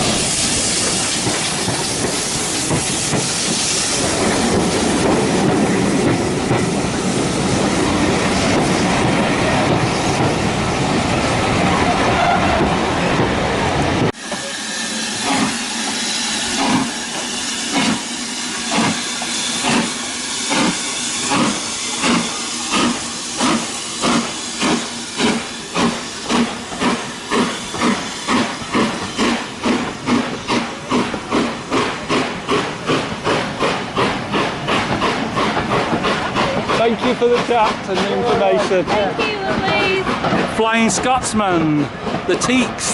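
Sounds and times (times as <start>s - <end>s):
steam locomotive exhaust chuffing: 0.0s - 13.2s, 14.0s - 42.9s
train running noise: 0.0s - 42.9s.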